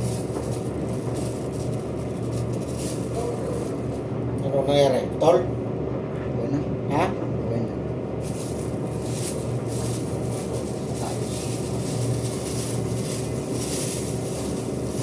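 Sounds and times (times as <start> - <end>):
motor humming and rumbling: 0.0 - 15.0.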